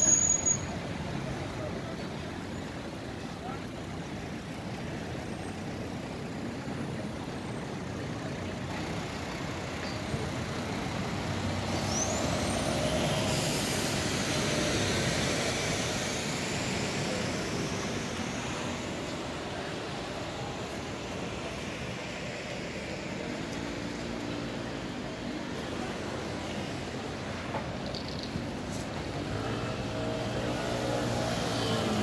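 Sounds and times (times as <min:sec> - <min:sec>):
street traffic noise: 0:00.0 - 0:32.0.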